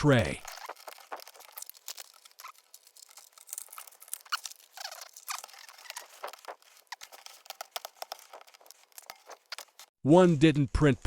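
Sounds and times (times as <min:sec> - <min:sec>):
plastic scraping: 0:00.0 - 0:09.9.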